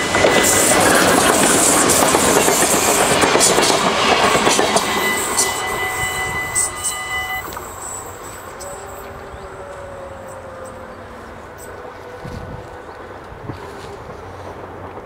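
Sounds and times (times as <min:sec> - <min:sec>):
crossing warning bells: 0:00.0 - 0:15.0
train wheel and rail rumble: 0:00.0 - 0:15.0.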